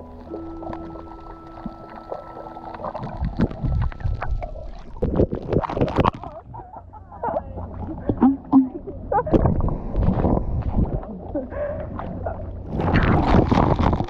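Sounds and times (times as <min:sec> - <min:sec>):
water splashing on microphone: 0:00.0 - 0:14.0.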